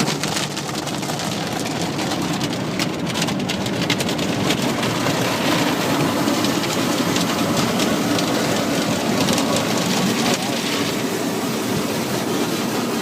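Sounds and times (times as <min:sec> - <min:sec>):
car wash water spraying: 0:00.0 - 0:13.0.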